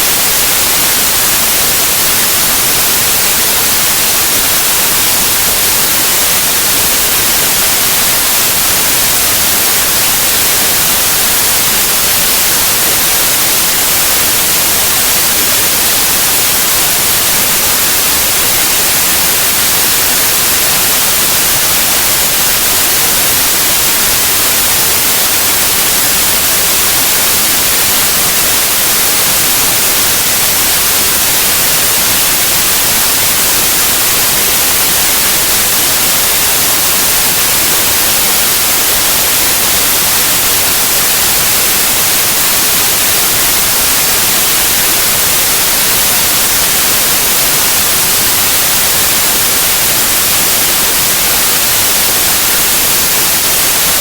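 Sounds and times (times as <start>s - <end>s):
loud white noise hiss: 0.0s - 54.0s.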